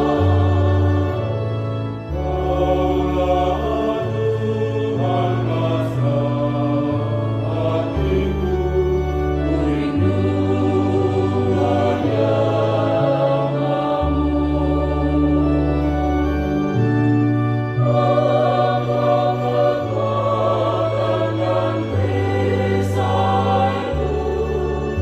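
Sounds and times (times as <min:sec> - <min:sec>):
choir singing slow song: 0:00.0 - 0:25.0.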